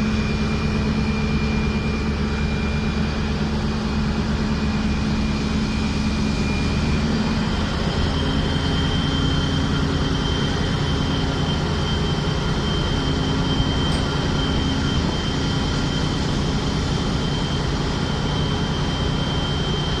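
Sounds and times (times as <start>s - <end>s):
high-pitched machinery whine: 0.0s - 20.0s
ship engine rumble and hum: 0.0s - 20.0s.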